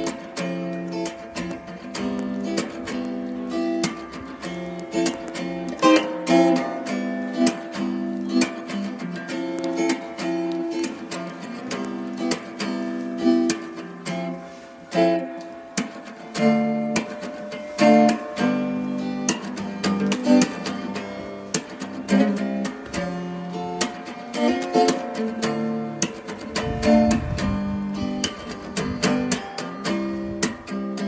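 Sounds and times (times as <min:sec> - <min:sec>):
acoustic guitar picked and strummed: 0:00.0 - 0:31.0.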